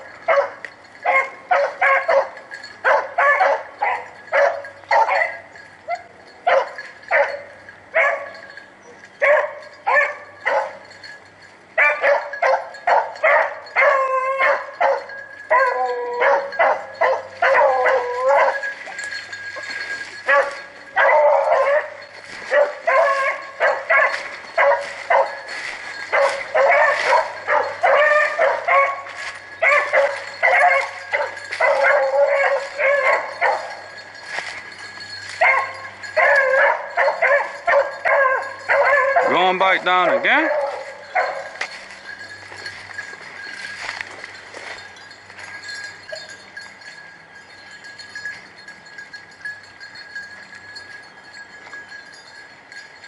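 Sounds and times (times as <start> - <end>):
hounds baying: 0.0 - 53.0.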